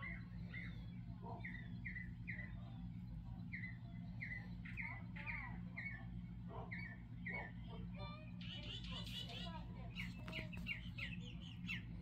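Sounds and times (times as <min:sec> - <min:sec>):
small bird chirping: 0:00.0 - 0:12.0
steady low hum: 0:00.0 - 0:12.0.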